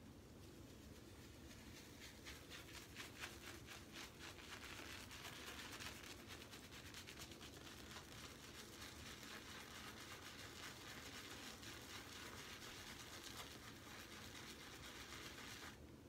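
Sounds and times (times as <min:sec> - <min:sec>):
shaving brush scratching on soap: 0:00.9 - 0:15.8.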